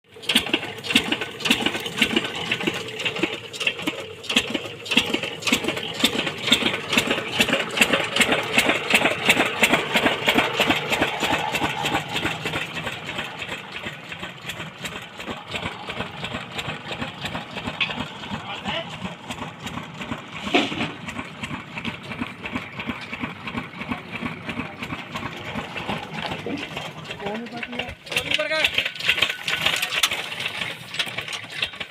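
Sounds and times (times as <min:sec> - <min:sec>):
engine running with rapid beat: 0:00.0 - 0:31.9.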